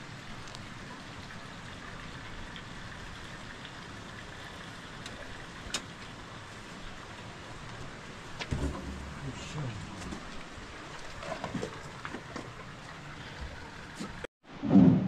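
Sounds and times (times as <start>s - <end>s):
steady rain falling: 0.0s - 14.3s.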